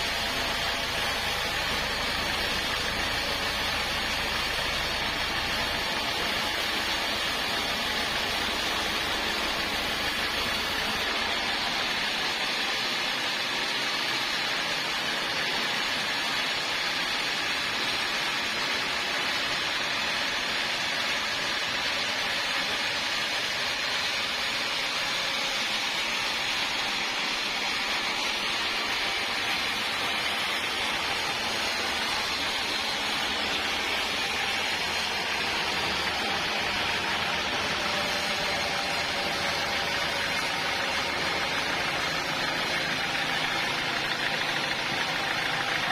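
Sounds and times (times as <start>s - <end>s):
sawmill saw running: 0.0s - 45.9s.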